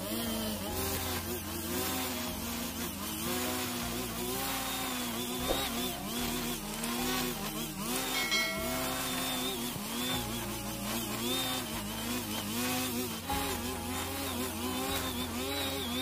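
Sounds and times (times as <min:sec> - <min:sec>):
brush cutter cutting grass: 0:00.0 - 0:16.0.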